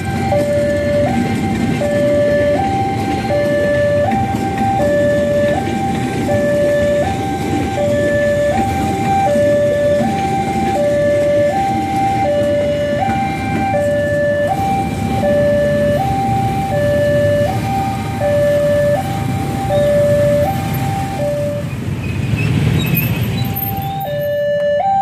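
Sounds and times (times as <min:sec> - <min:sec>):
two-tone crossing alarm: 0:00.0 - 0:21.8, 0:22.9 - 0:25.0
electric train rumbling past: 0:00.0 - 0:25.0.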